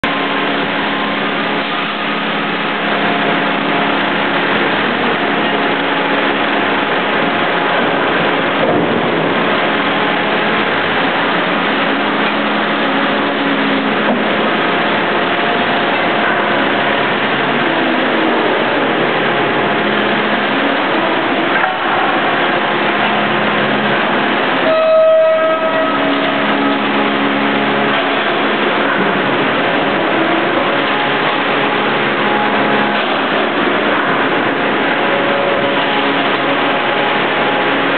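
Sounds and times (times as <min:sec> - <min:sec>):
hydraulic forging press machinery: 0:00.0 - 0:37.9
low hum: 0:00.0 - 0:37.9.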